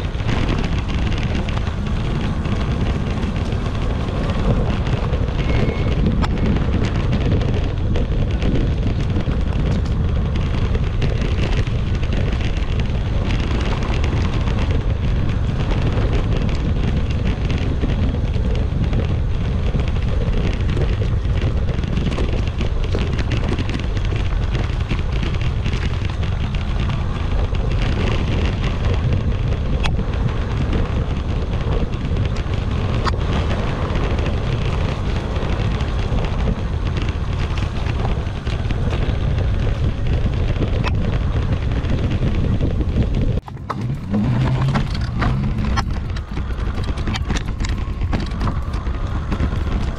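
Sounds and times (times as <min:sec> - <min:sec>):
small clicks and rattles: 0:00.0 - 0:49.9
tyre and frame rumble: 0:00.0 - 0:49.9
wind buffeting microphone: 0:00.0 - 0:49.9.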